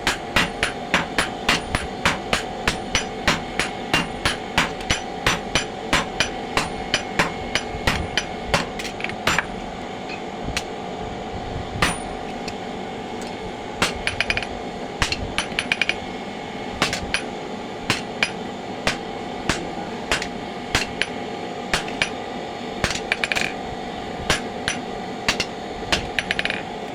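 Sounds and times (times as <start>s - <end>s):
hammer striking metal on anvil: 0.0s - 10.8s, 11.8s - 12.6s, 13.2s - 16.1s, 16.8s - 23.6s, 24.3s - 26.6s
steady hum: 0.0s - 26.9s.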